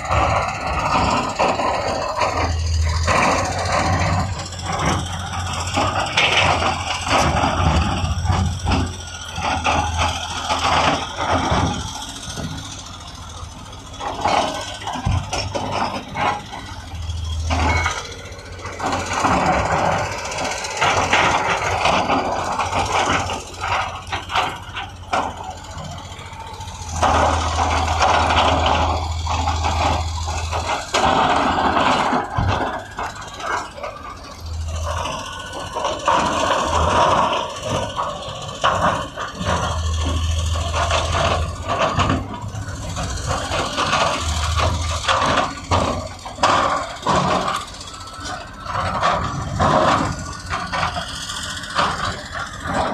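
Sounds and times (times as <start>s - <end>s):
diesel engine running under load: 0.0s - 52.9s
metal clanks and rattles: 0.0s - 52.9s.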